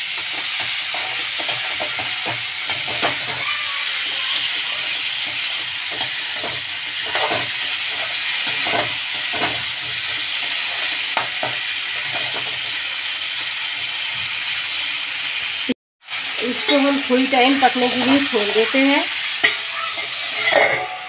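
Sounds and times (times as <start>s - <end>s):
metal spatula scraping a wok: 0.0s - 14.3s, 16.4s - 21.0s
vegetables sizzling in oil: 0.0s - 21.0s.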